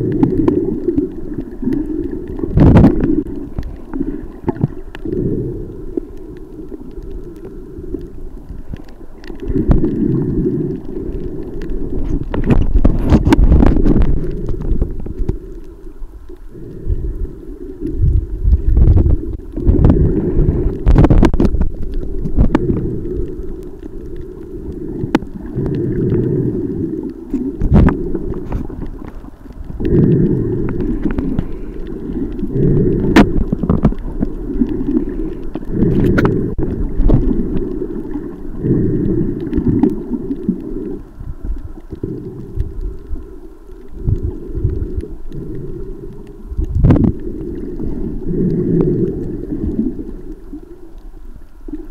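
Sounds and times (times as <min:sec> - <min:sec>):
muffled underwater rumble and sloshing: 0:00.0 - 0:51.9.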